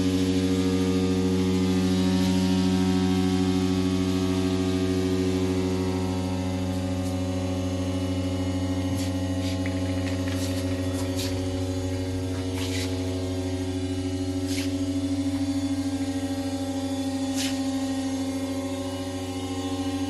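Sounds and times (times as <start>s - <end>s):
welding machine electrical hum: 0.0s - 20.0s.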